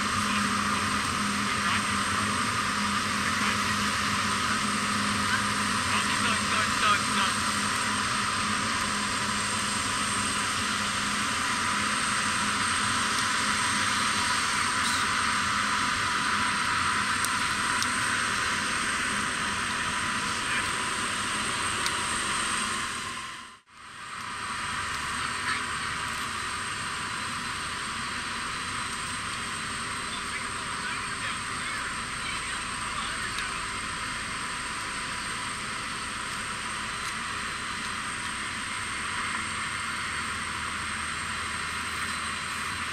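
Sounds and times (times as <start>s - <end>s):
jet turbines whining: 0.0s - 42.9s.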